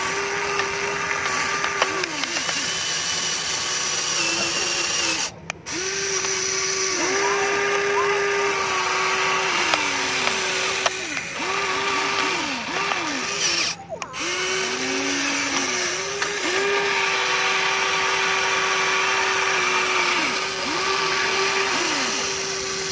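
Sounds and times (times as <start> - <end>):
toy excavator motors whining: 0.0 - 22.9.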